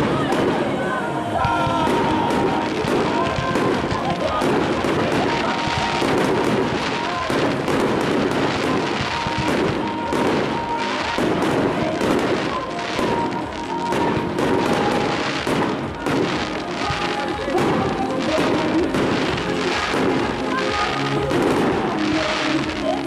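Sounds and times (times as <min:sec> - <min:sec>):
fireworks bursting and crackling: 0:00.0 - 0:23.0
music playing: 0:00.0 - 0:23.0.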